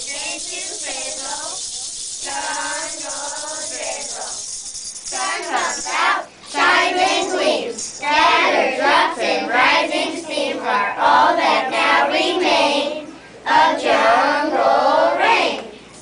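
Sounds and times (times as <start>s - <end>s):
children singing in unison: 0.0s - 4.4s, 5.1s - 15.7s.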